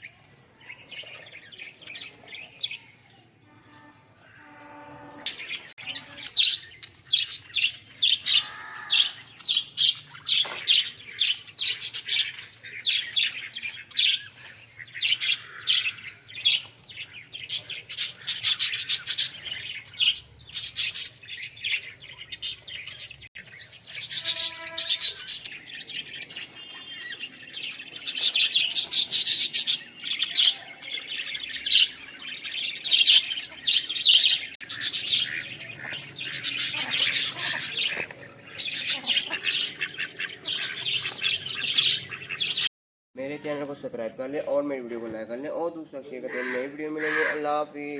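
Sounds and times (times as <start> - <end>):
budgerigars chirping: 5.3 - 42.7, 46.2 - 47.9.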